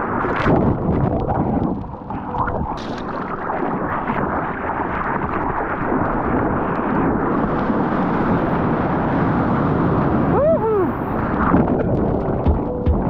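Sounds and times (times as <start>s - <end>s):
ocean water rushing and splashing: 0.0s - 13.0s.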